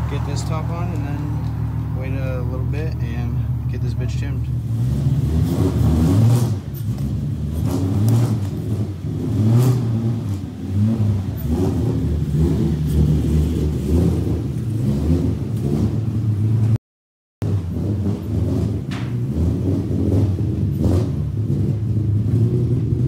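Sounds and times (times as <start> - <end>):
car engine revving unevenly: 0.0 - 16.8, 17.4 - 23.0.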